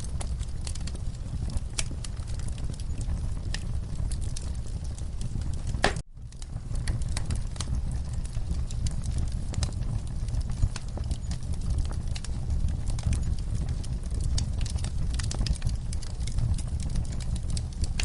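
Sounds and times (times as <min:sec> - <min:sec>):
burning wood crackling: 0:00.0 - 0:18.0
fire flames rumbling: 0:00.0 - 0:18.0.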